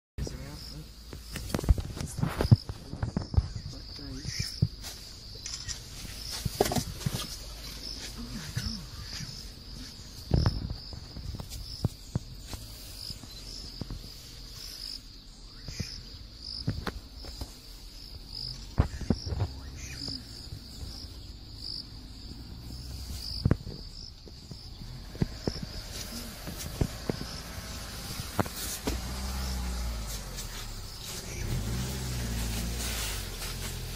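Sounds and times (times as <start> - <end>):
insects shrilling: 0.3 - 33.9.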